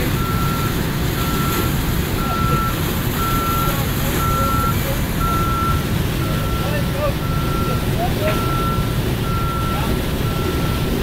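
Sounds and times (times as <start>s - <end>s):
back-up alarm beeping: 0.1s - 11.0s.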